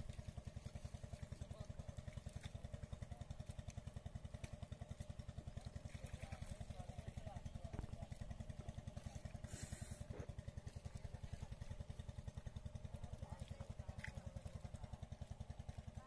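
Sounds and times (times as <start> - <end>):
small engine running steadily: 0.0 - 16.0.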